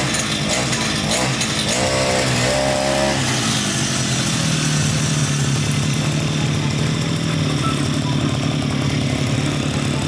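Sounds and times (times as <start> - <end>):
brush cutter engine idling: 0.0 - 10.0
brush cutter throttle revving: 0.0 - 10.0.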